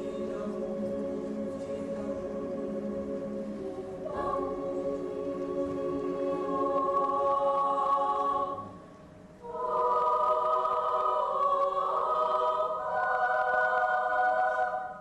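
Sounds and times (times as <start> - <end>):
children's choir singing chords: 0.0 - 15.0.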